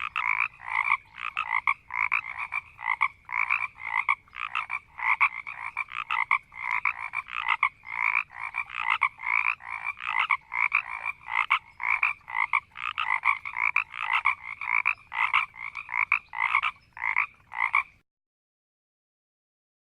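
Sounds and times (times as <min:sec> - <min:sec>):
frogs croaking: 0:00.0 - 0:18.0.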